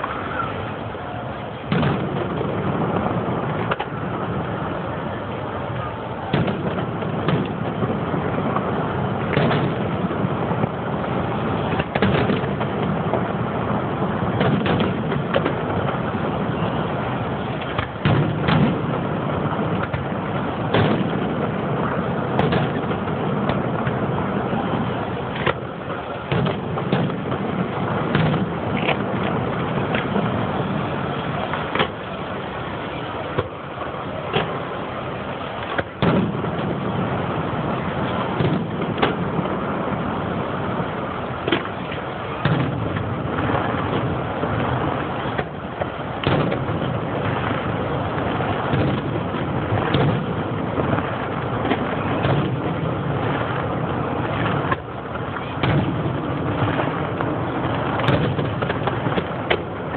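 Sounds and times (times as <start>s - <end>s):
steady background noise: 0.0s - 59.9s
firework shells bursting: 1.5s - 4.8s, 5.6s - 59.9s.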